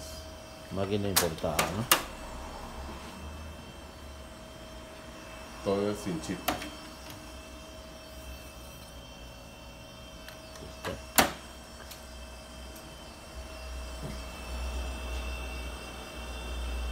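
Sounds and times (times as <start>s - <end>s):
copier humming and whining: 0.0s - 16.9s.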